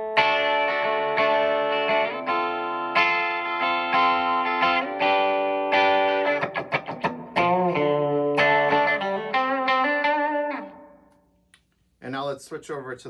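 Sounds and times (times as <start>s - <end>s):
clean electric guitar with reverb: 0.0s - 11.1s.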